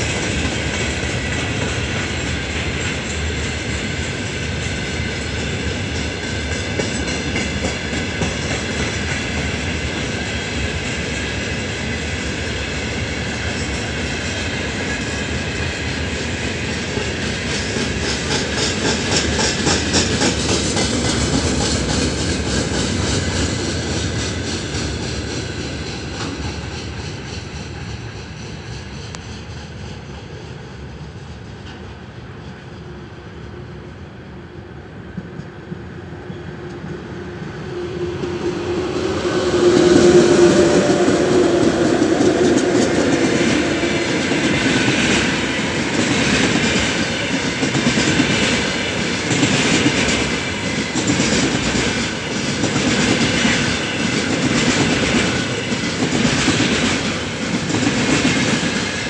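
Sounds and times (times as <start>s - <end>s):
freight train wheels clattering: 0.0s - 32.8s, 37.8s - 59.0s.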